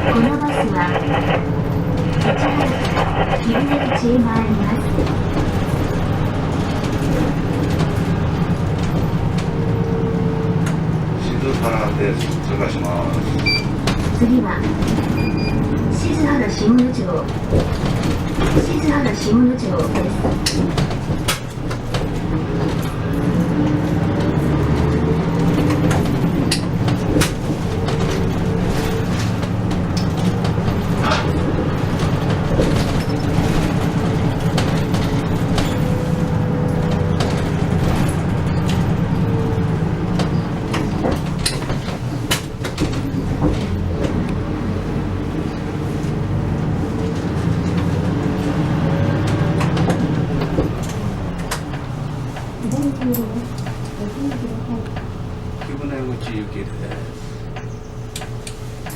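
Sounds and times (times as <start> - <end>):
bodywork rattles and knocks: 0.0 - 58.9
bus engine drone: 0.0 - 58.9.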